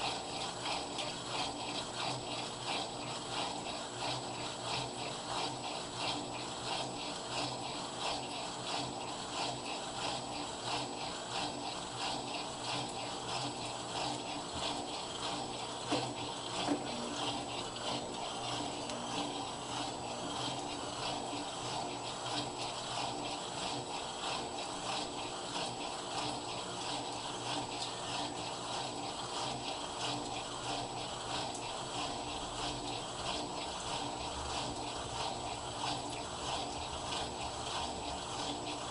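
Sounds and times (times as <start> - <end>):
washing machine motor hum: 0.0 - 38.9
water and laundry churning: 0.0 - 38.9.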